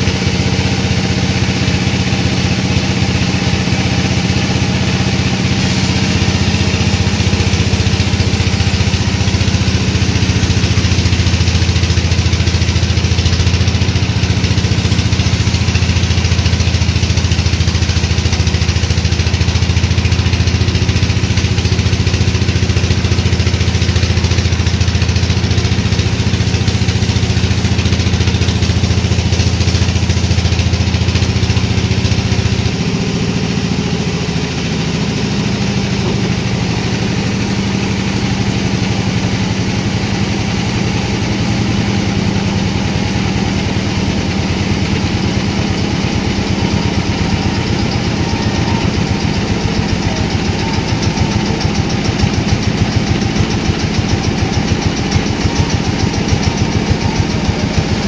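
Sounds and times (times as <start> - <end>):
sawmill machinery drone: 0.0 - 58.0.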